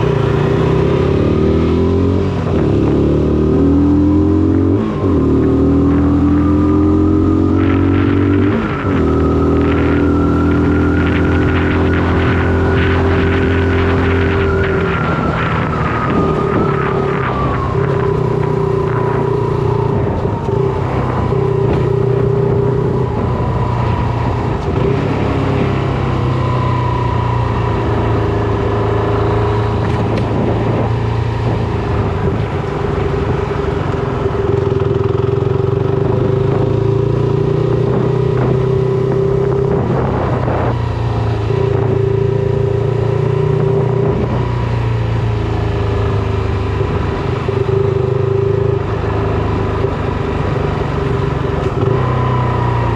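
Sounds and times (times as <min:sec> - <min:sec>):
motorcycle engine running: 0:00.0 - 0:26.0, 0:27.8 - 0:52.2.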